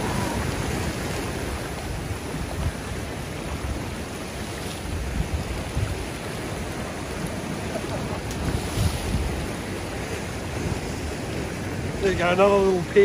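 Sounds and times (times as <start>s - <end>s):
ocean swell washing over rocks: 0.0s - 13.0s
wind buffeting microphone: 0.0s - 13.0s.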